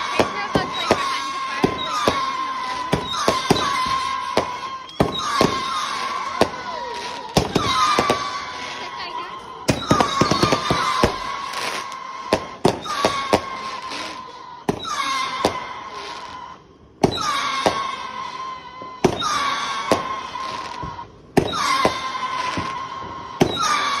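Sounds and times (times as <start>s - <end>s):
firework crackling: 0.0s - 24.0s
firework whistle: 0.0s - 24.0s.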